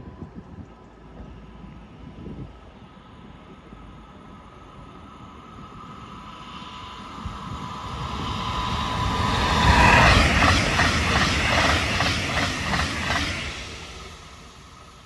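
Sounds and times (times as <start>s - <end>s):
train rushing past: 1.1s - 15.0s.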